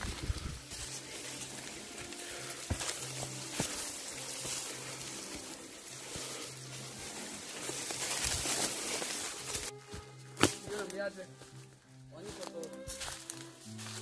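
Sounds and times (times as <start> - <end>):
bamboo leaves rustling: 0.0 - 14.0.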